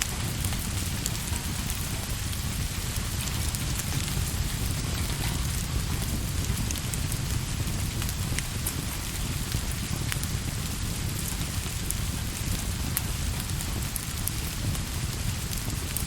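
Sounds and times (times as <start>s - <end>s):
deep rumble: 0.0s - 15.9s
steady rain: 0.0s - 16.0s
wood fire crackling: 0.0s - 16.0s.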